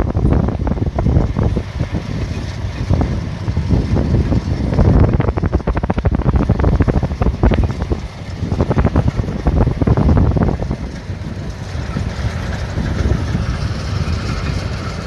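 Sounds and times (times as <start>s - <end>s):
combine harvester running: 0.0s - 15.0s
wind buffeting microphone: 0.0s - 15.0s.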